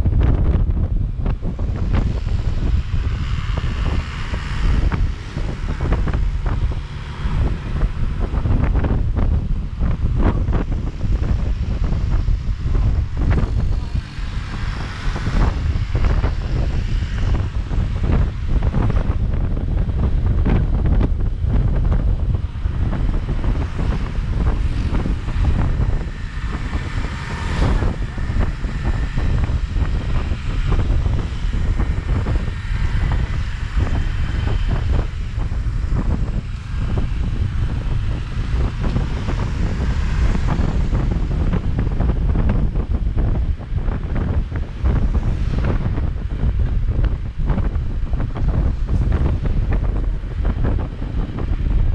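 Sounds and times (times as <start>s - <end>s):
vehicle rumble on road: 0.0s - 51.9s
wind buffeting microphone: 0.0s - 51.9s.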